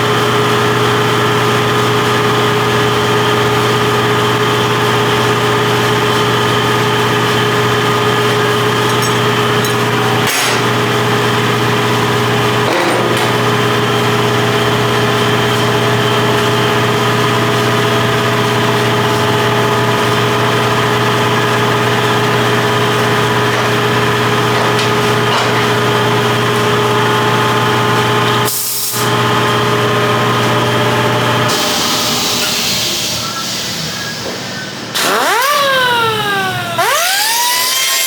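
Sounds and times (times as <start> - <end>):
engine running steadily: 0.0 - 37.6.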